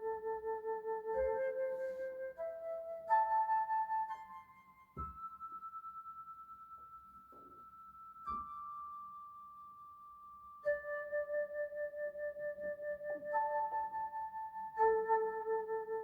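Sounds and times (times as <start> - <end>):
slow meditation music: 0.0 - 16.0.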